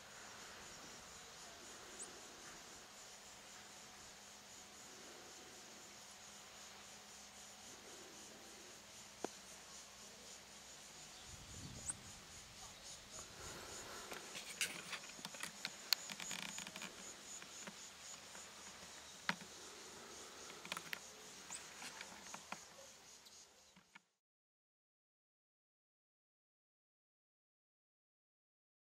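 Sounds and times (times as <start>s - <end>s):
insect trill: 0.0s - 24.2s.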